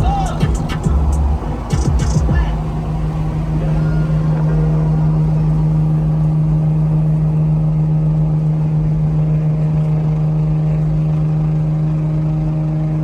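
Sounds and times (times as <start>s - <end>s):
car engine droning: 0.0s - 13.0s
road rumble: 0.0s - 13.0s.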